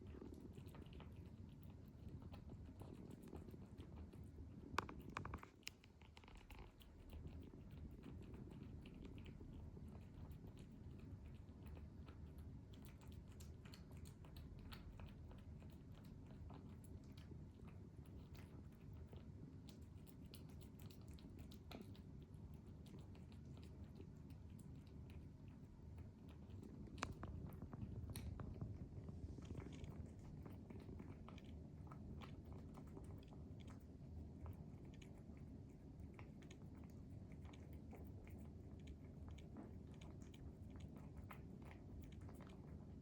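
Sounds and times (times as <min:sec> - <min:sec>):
cat chewing food: 0:00.0 - 0:43.0.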